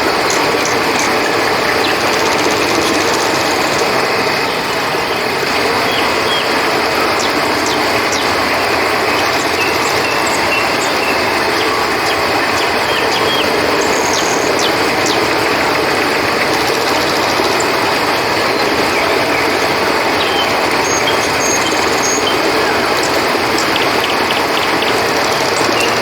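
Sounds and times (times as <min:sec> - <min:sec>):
crickets trilling: 0:00.0 - 0:26.0
river water rushing: 0:00.0 - 0:26.0.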